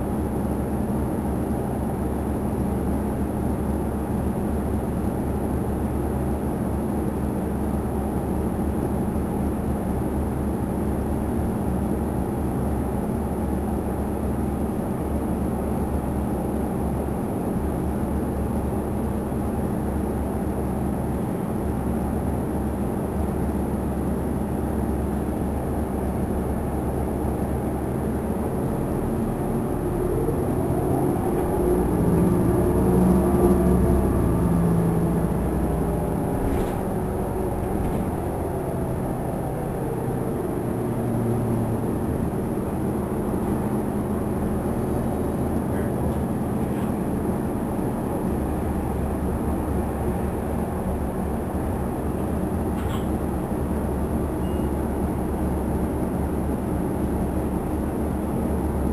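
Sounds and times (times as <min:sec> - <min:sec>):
bus engine droning: 0:00.0 - 0:58.9
rising whine of bus drive: 0:00.0 - 0:58.9.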